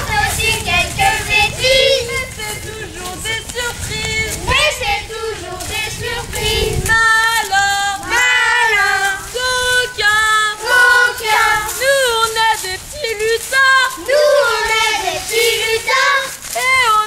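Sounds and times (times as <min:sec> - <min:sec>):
children singing: 0:00.0 - 0:17.0
woman singing: 0:00.0 - 0:17.0.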